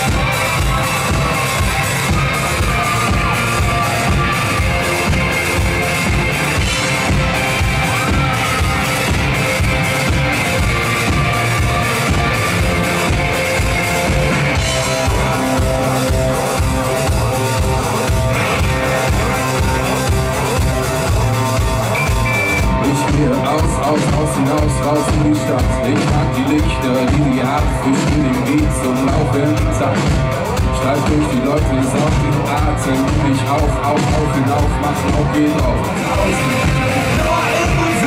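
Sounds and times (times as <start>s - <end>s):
drum kit beat: 0.0s - 38.0s
electric guitars: 0.0s - 38.0s.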